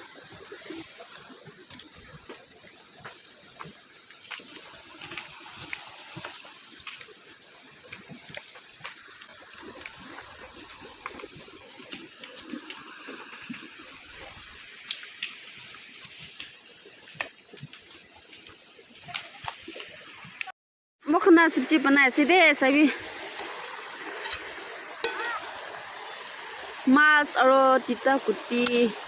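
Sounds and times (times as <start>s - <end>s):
water running and trickling: 0.0s - 20.5s, 21.1s - 29.0s.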